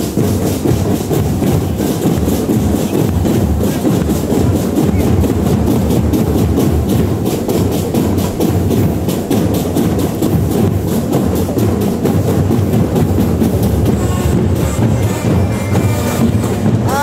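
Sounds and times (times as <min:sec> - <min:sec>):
bass drum: 0:00.0 - 0:17.0
marching band drums: 0:00.0 - 0:17.0.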